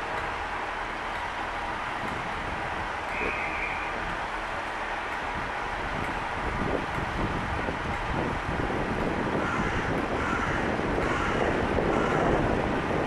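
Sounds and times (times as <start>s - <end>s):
train diesel engines running: 0.0s - 13.0s
wheels rumbling on rails: 0.0s - 13.0s.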